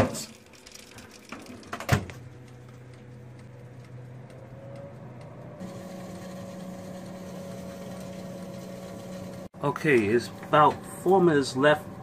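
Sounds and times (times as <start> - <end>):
oven fan motor humming: 0.0 - 12.0.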